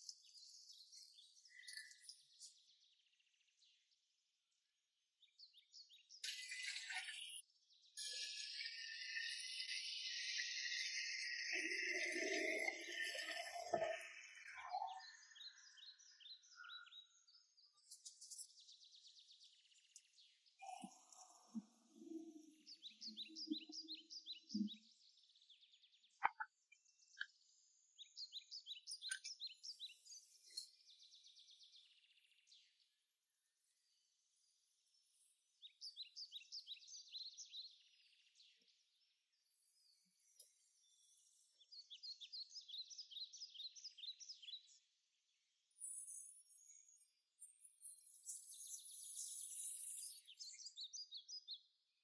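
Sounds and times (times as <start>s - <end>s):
songbird chirping: 0.0s - 33.0s, 34.9s - 45.0s, 45.8s - 52.0s.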